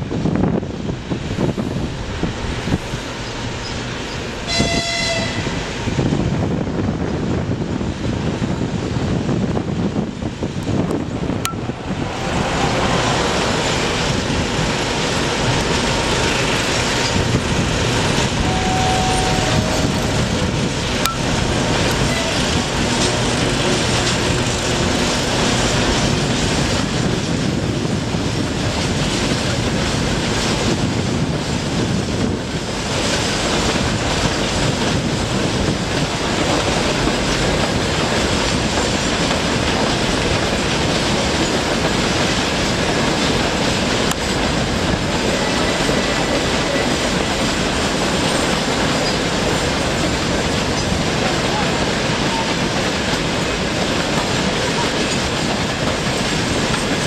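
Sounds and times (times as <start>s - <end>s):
train wheels clattering over rails: 10.3s - 57.0s.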